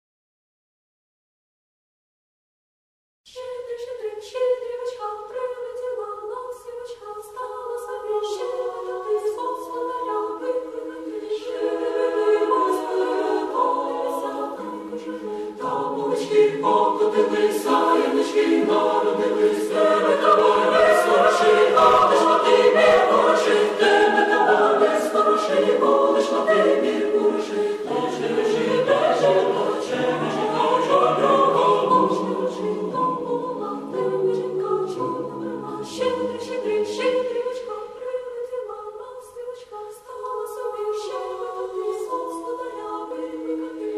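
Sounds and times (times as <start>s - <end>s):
a cappella choir singing: 3.3s - 43.9s.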